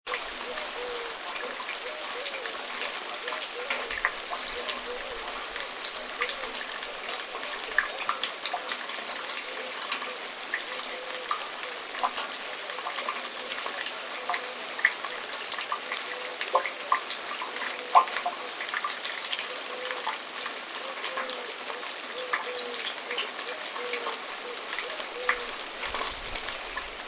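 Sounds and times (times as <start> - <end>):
rain pattering: 0.1 - 27.0.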